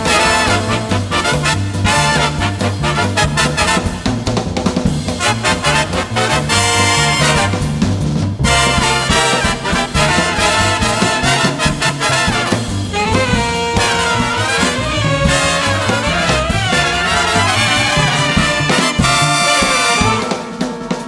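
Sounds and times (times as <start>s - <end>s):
trumpets and trombones: 0.0s - 4.4s, 5.0s - 21.0s
walking bass line: 0.0s - 20.4s
big band swing music: 0.0s - 21.0s
drums: 0.0s - 21.0s.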